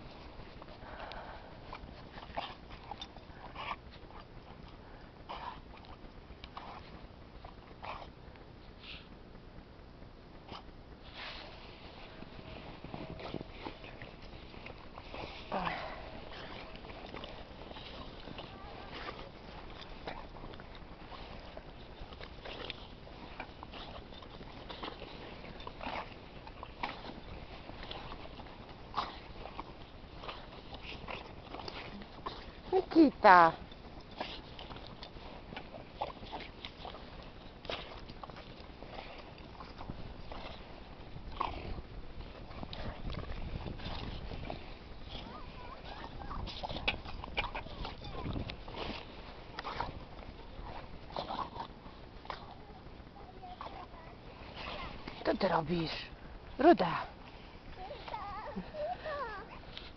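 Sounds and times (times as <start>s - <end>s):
dog snuffling and huffing: 10.4s - 59.9s.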